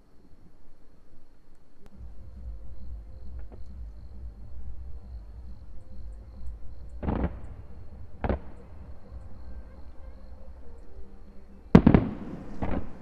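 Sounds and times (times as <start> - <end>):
fireworks booming: 1.9 - 13.0.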